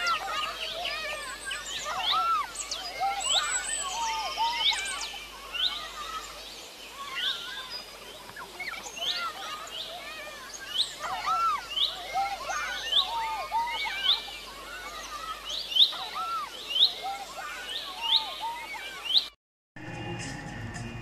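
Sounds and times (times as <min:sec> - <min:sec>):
birds chirping: 0:00.0 - 0:19.4
faint outdoor background noise: 0:00.0 - 0:21.0.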